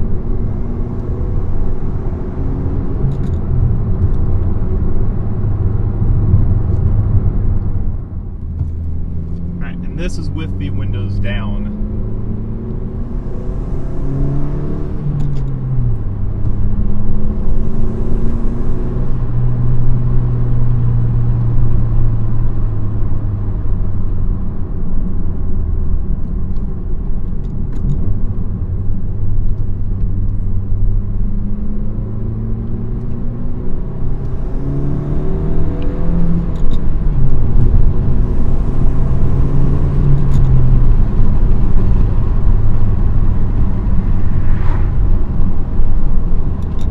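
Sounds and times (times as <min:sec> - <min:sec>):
car engine accelerating through gears: 0:00.0 - 0:46.9.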